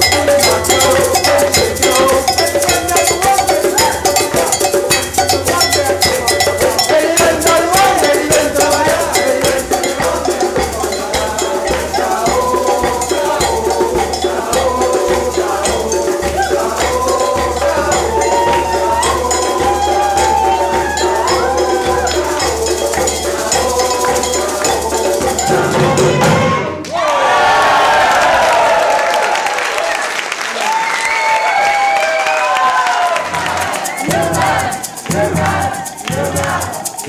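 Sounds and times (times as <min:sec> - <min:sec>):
shakers: 0:00.0 - 0:26.2, 0:31.2 - 0:37.0
cowbell: 0:00.0 - 0:26.6, 0:33.3 - 0:37.0
bass drum beat: 0:00.0 - 0:26.8, 0:33.3 - 0:37.0
latin percussion band: 0:00.0 - 0:26.8, 0:30.6 - 0:37.0
crowd applauding and cheering: 0:00.0 - 0:37.0.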